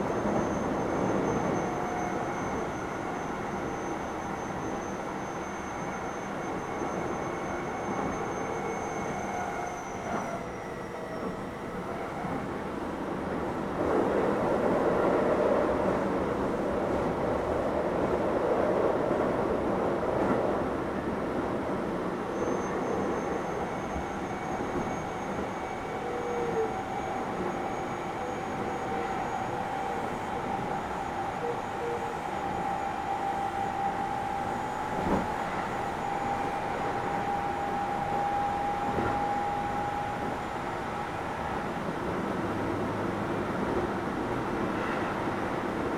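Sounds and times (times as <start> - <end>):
train wheels rumbling on rails: 6.3 - 45.9.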